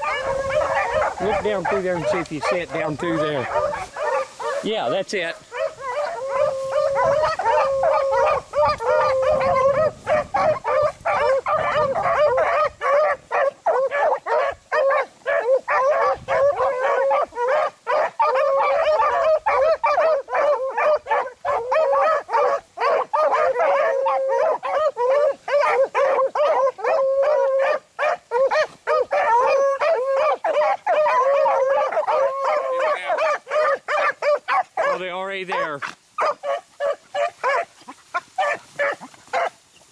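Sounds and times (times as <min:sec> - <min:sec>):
hounds baying: 0:00.0 - 0:39.9.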